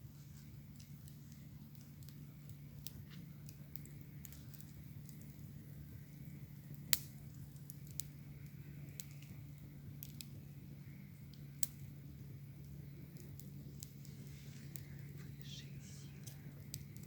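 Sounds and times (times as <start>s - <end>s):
bonfire crackling and popping: 0.0s - 17.0s
steady low hum: 0.0s - 17.0s.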